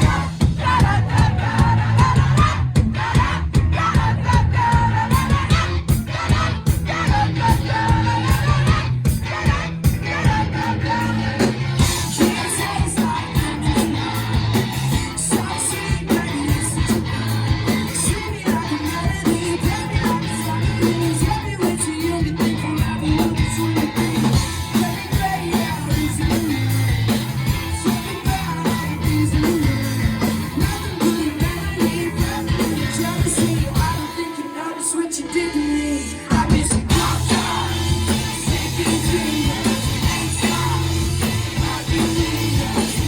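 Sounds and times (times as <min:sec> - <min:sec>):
person singing: 0:00.0 - 0:26.8, 0:27.7 - 0:43.0
live rock band playing: 0:00.0 - 0:43.0.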